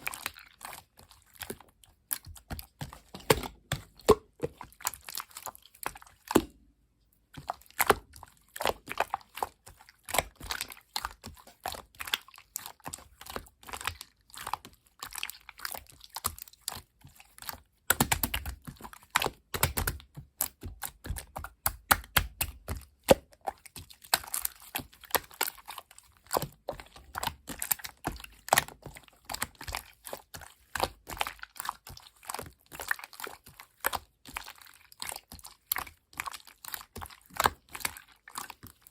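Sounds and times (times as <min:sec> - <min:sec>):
slime squished by hand: 0:00.0 - 0:06.7, 0:07.4 - 0:38.9.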